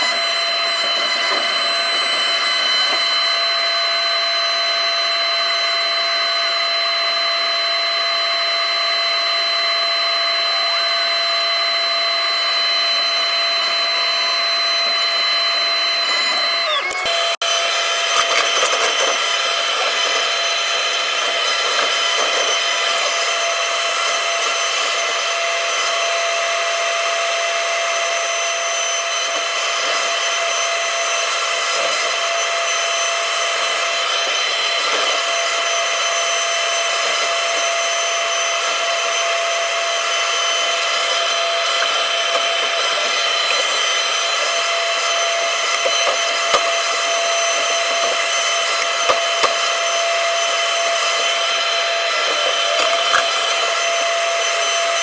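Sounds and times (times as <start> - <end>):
excavator engine and hydraulics whining: 0.0 - 55.0.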